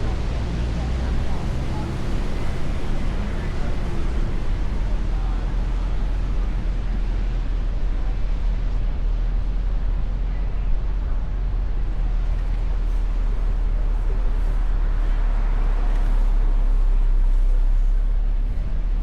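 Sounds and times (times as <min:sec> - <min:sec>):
road and traffic noise: 0:00.0 - 0:19.0
wind on microphone: 0:00.0 - 0:19.0.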